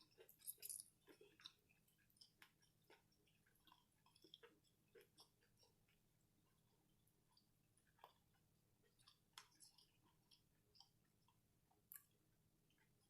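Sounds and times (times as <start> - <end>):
chewing crunchy food: 0.0 - 13.0.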